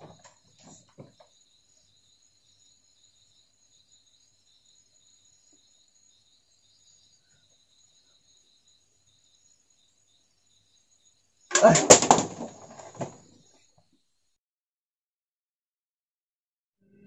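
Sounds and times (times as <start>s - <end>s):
insects chirring: 0.0s - 14.2s.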